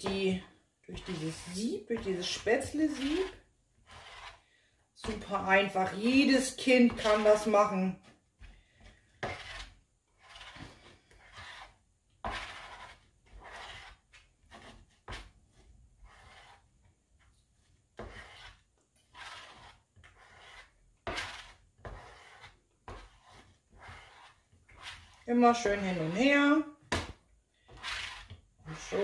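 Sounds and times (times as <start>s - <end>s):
plastic spatula scraping dough: 0.0s - 29.0s.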